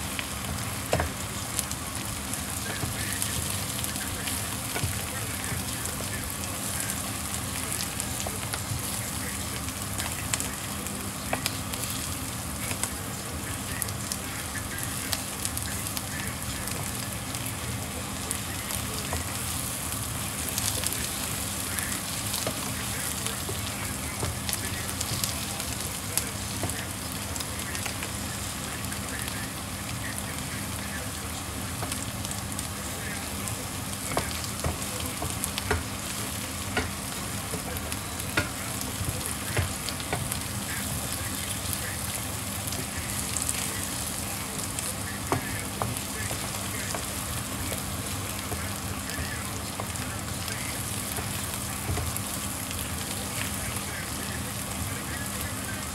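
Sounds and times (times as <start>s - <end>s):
food sizzling in frying pan: 0.0s - 55.9s.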